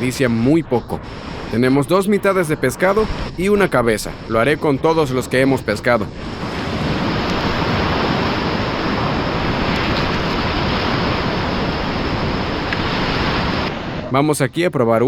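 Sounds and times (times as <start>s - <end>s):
ocean waves washing: 0.0s - 14.3s.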